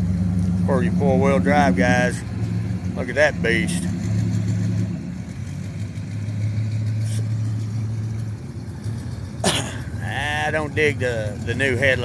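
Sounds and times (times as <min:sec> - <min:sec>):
truck engine rumbling past: 0:00.0 - 0:12.0.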